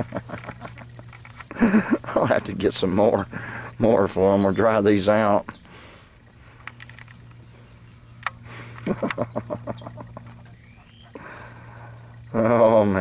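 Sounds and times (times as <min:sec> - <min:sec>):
puppies grunting: 0:00.0 - 0:06.6, 0:07.3 - 0:13.0
birds chirping: 0:00.0 - 0:13.0
steady low hum: 0:00.0 - 0:13.0.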